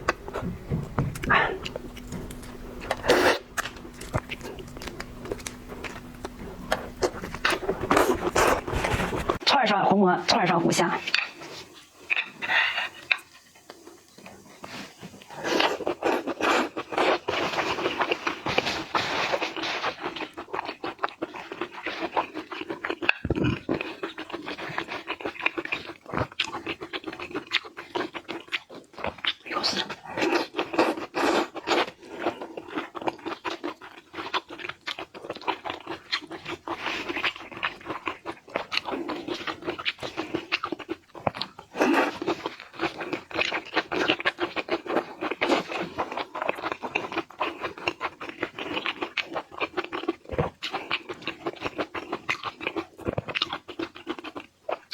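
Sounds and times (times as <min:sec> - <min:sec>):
chewing and crunching food: 0:00.0 - 0:54.9.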